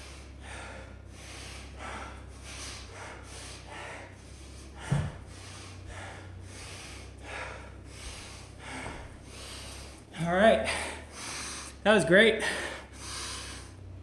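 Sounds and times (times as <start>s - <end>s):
man breathing hard: 0.0s - 14.0s.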